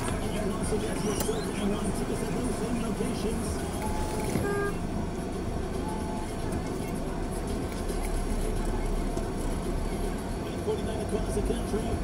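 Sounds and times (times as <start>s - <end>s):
busy street noise: 0.0s - 12.0s
car engine and road rumble: 0.0s - 12.0s.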